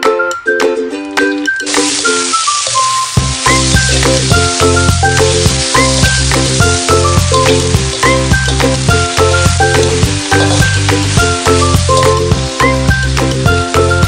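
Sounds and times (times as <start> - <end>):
background music with beat: 0.0 - 14.0
food sizzling in hot oil: 1.6 - 14.0.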